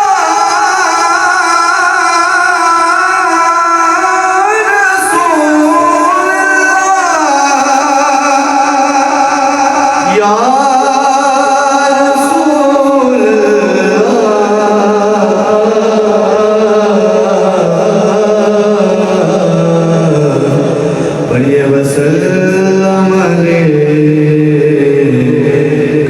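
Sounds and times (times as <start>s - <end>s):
devotional singing: 0.0s - 26.0s.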